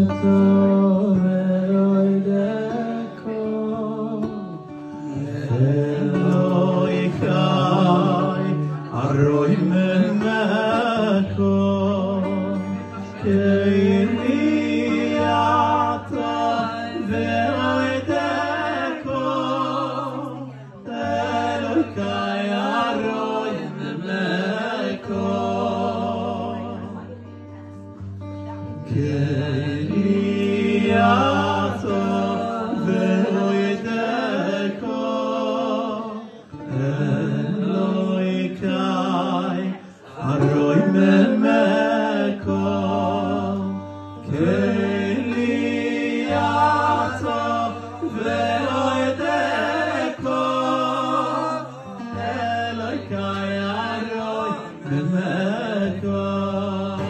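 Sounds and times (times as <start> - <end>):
man singing with vibrato: 0.0 - 27.4, 28.2 - 57.0
acoustic guitar: 0.0 - 57.0.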